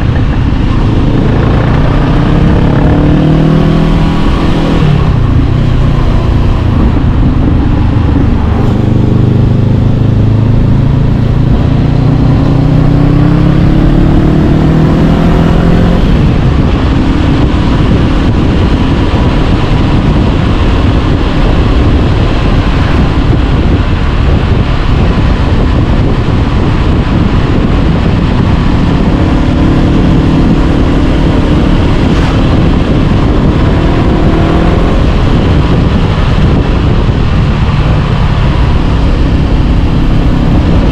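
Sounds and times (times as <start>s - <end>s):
motorcycle engine accelerating: 0.0s - 40.9s
wind and road noise: 0.0s - 40.9s.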